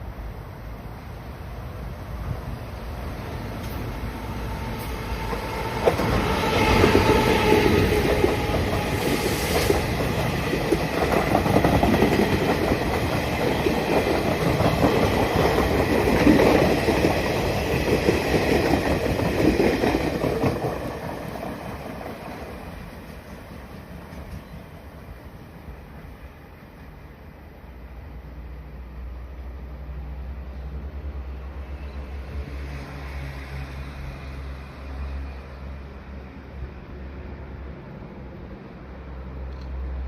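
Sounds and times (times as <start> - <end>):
passenger train passing: 0.0 - 40.0.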